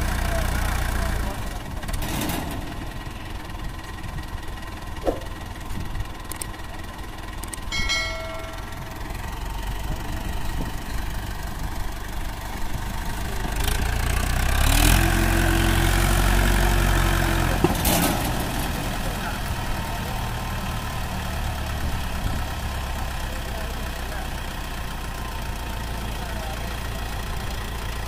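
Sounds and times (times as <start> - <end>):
tractor diesel engine idling and revving: 0.0 - 28.0.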